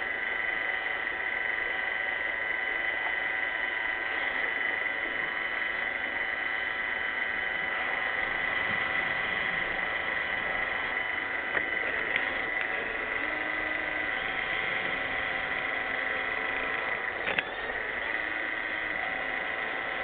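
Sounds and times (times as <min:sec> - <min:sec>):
robot vacuum running: 0:00.0 - 0:20.0.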